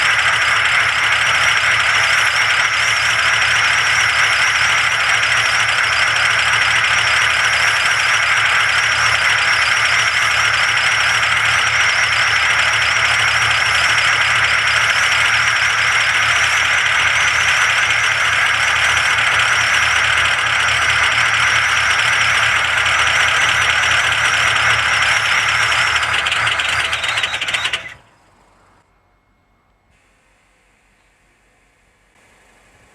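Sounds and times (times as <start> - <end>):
diesel engine clattering: 0.0 - 28.8.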